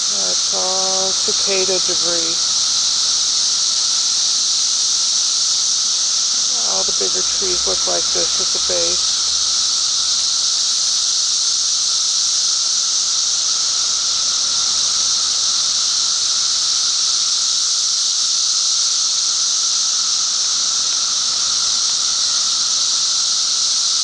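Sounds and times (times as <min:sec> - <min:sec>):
chorus of cicadas droning: 0:00.0 - 0:24.0.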